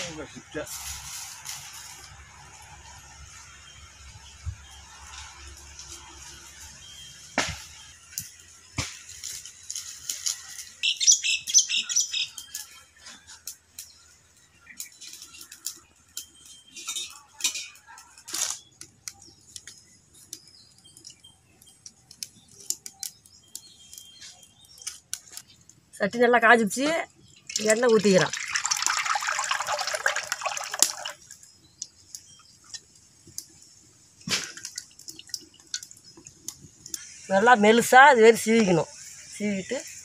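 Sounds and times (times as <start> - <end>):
fire crackling: 0.0 - 40.0.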